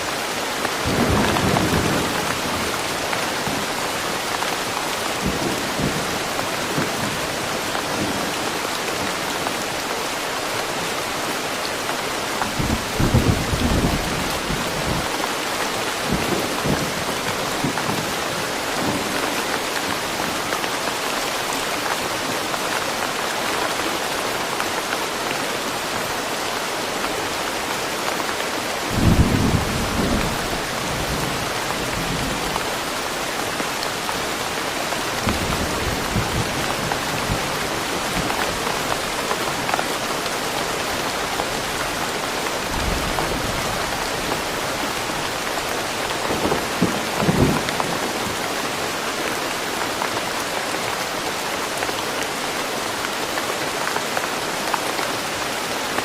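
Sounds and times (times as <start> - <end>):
rain falling in woodland: 0.0 - 56.0.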